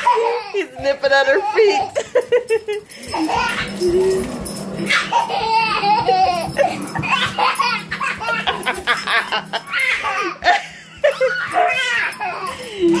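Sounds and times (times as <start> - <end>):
toddler laughing: 0.0 - 13.0.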